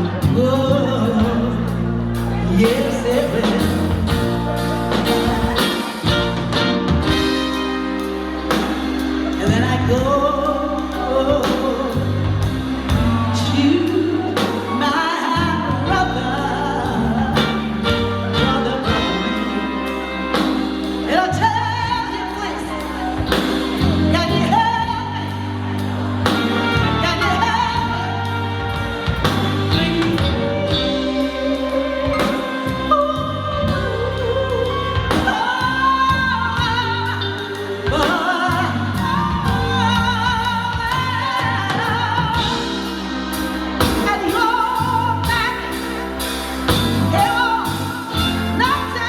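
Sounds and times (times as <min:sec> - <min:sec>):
backing track with bass line: 0:00.0 - 0:49.0
woman singing: 0:00.0 - 0:49.0.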